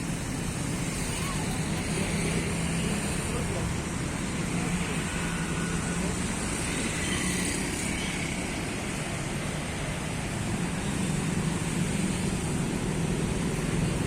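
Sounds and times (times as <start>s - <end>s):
low traffic hum: 0.0s - 14.0s
passing vehicle engines: 0.0s - 14.0s.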